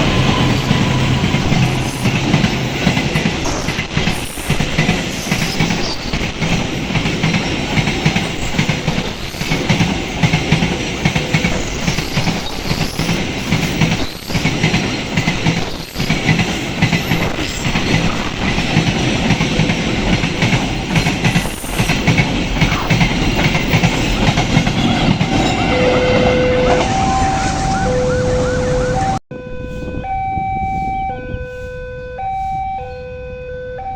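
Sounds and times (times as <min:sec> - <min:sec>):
train wheels rumbling on rails: 0:00.0 - 0:32.6.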